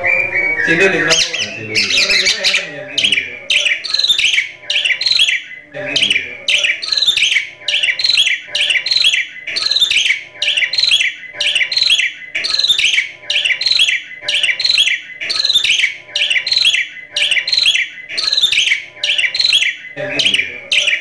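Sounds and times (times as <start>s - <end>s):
myna calling: 0.0s - 21.0s.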